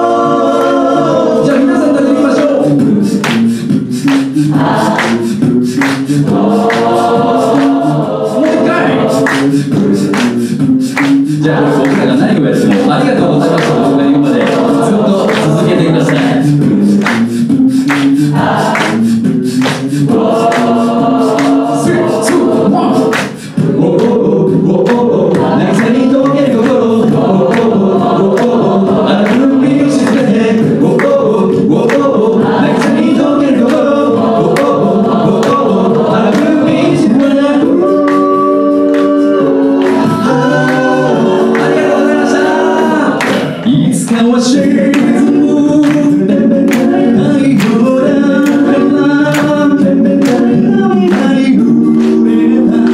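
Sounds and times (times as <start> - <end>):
audience singing along: 0.0 - 52.9
vocal group singing in harmony: 0.0 - 52.9
vocal percussion: 0.0 - 52.9.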